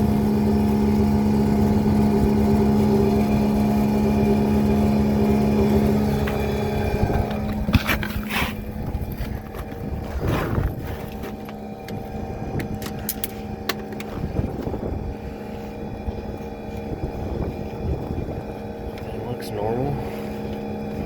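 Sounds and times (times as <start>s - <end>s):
motor hum: 0.0s - 21.0s
wind rumble on microphone: 0.0s - 21.0s.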